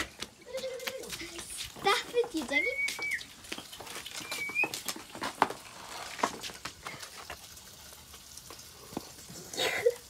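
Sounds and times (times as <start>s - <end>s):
light clicks taps and rustles: 0.0s - 9.3s.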